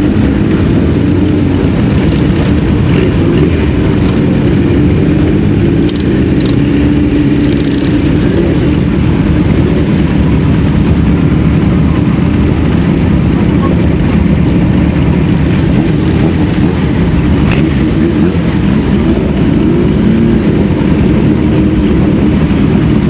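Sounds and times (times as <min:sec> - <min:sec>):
motorcycle engines running: 0:00.0 - 0:23.0.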